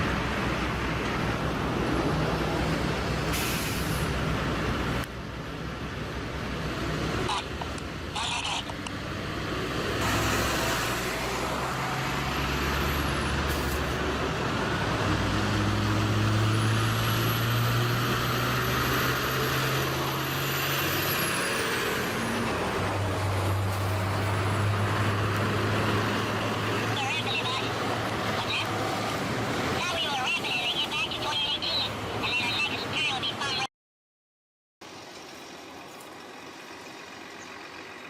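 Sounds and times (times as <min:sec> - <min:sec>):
heavy truck engine: 0:00.0 - 0:33.7, 0:34.8 - 0:38.0.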